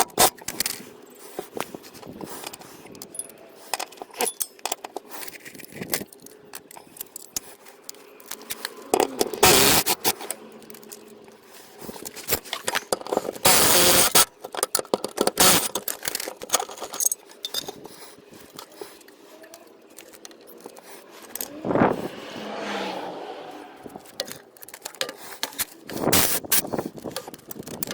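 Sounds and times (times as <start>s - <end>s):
metal tools clinking and scraping: 0.0s - 21.7s, 23.9s - 27.9s.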